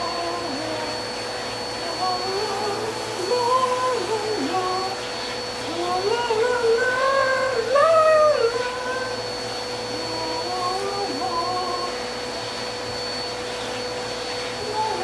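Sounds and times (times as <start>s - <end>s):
vacuum cleaner running: 0.0s - 15.0s
wavering howl-like voice: 0.0s - 15.0s.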